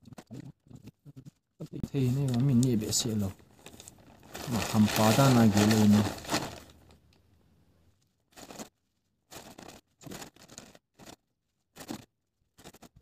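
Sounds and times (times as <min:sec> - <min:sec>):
rustling and scraping: 0:00.0 - 0:07.0, 0:08.0 - 0:13.0.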